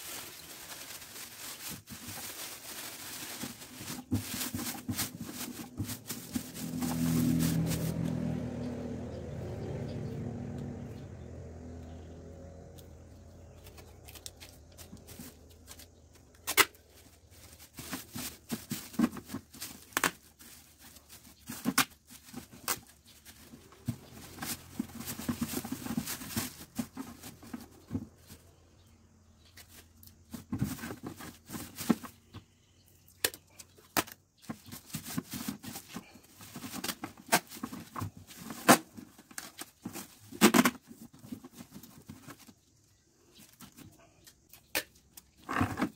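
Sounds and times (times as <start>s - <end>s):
plastic bag rustling and crinkling: 0.0s - 8.3s, 13.2s - 28.4s, 29.5s - 32.3s, 33.4s - 43.9s.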